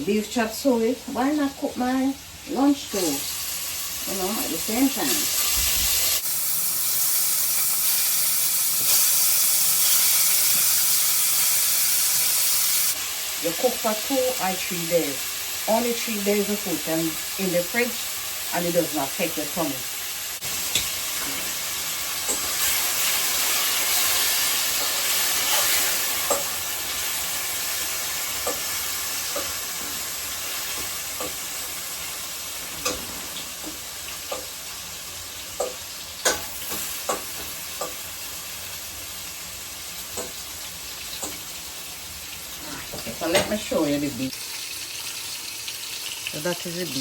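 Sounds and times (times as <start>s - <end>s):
meat sizzling in hot oil: 1.2s - 47.0s.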